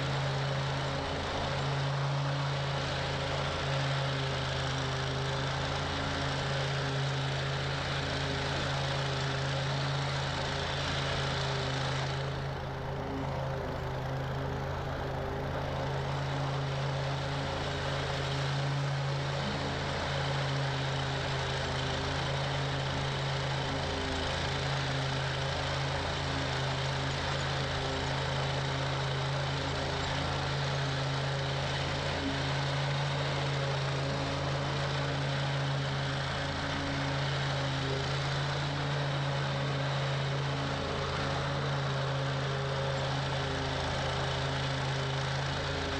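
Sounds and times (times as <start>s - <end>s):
mower engine running: 0.0s - 45.9s.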